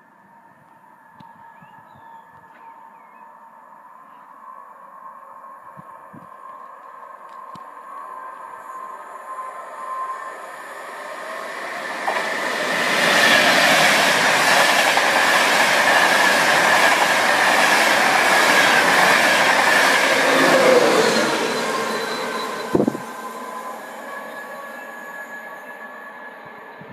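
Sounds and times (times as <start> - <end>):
train passing at speed: 2.6 - 26.9.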